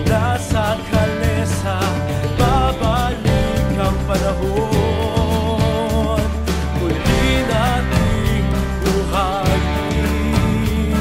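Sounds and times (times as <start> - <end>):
song with singer bass and drums: 0.0 - 11.0.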